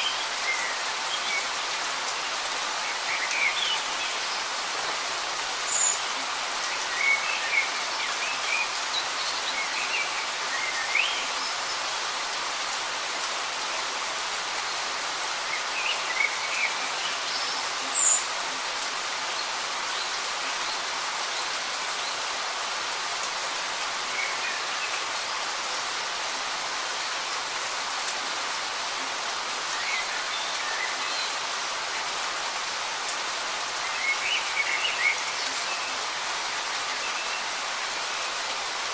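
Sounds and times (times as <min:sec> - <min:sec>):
light rain hiss: 0:00.0 - 0:38.9.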